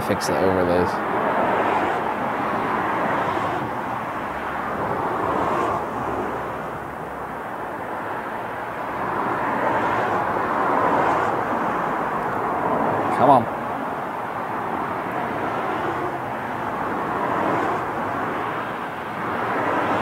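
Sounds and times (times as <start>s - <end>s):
road traffic rushing: 0.0s - 20.0s.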